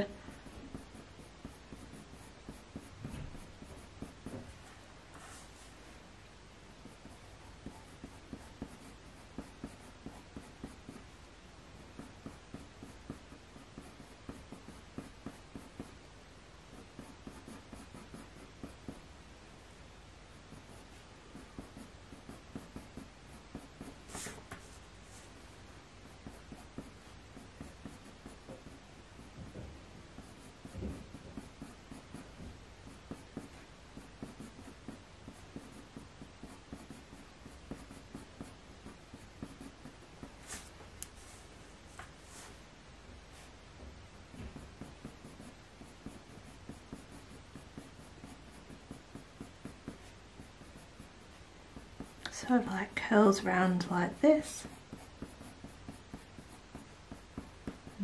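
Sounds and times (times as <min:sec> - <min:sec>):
pencil scratching on paper: 0:00.0 - 0:04.5, 0:06.8 - 0:11.1, 0:11.8 - 0:19.1, 0:20.3 - 0:41.5, 0:44.4 - 0:58.0.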